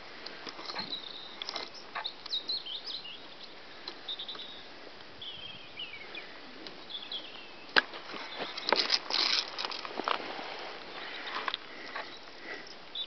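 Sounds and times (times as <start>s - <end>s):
small birds chirping and trilling: 0.0s - 10.2s, 10.8s - 13.0s.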